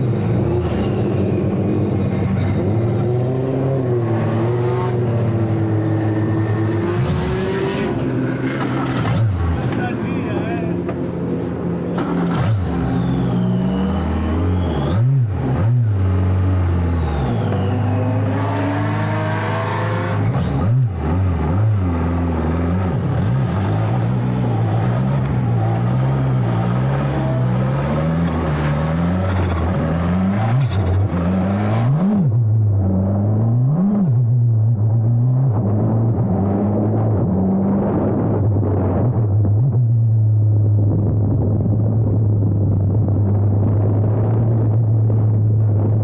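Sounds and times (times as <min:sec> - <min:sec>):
race car engine revving: 0:00.0 - 0:40.3.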